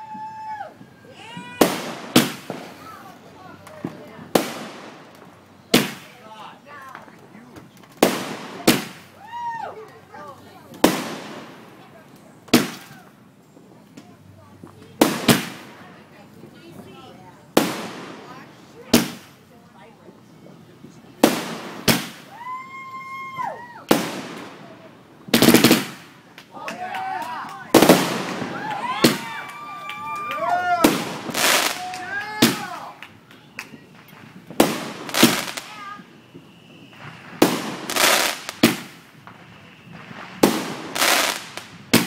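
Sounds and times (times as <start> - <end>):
firework bangs: 0.0 - 13.2, 14.0 - 19.6, 20.8 - 42.0
crackling firework reports: 0.0 - 42.0.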